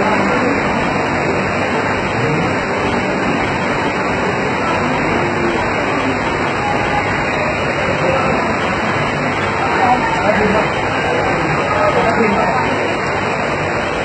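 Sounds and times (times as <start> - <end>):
faint voices: 0.0 - 14.0
loud rushing noise: 0.0 - 14.0.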